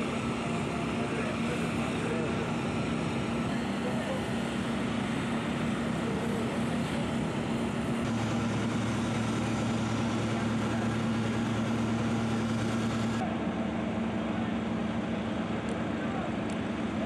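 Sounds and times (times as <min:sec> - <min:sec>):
engine humming with hiss: 0:00.0 - 0:17.0.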